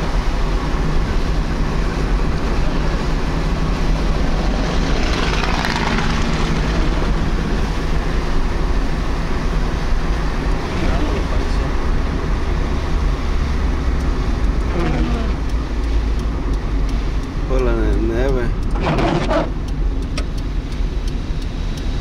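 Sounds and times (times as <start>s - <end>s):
car engine and tyres on wet road: 0.0s - 22.0s.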